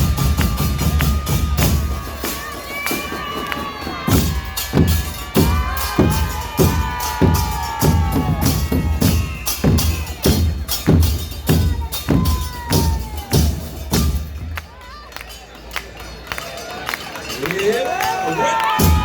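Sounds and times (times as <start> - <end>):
bass drums beating march rhythm: 0.0 - 14.9, 18.4 - 19.0.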